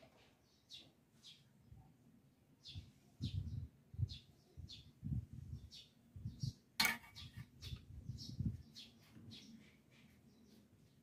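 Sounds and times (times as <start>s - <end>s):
small bird chirping: 0.4s - 1.9s, 2.6s - 11.0s.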